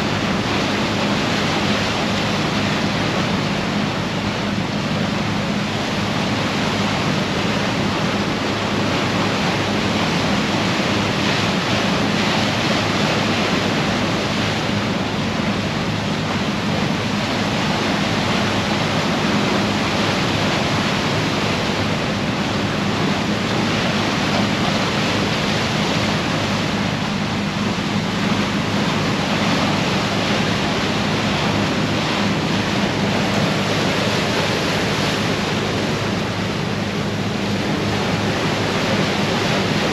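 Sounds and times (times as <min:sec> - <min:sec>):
ship engines humming: 0:00.0 - 0:39.9
water rushing against ship bow: 0:00.0 - 0:39.9.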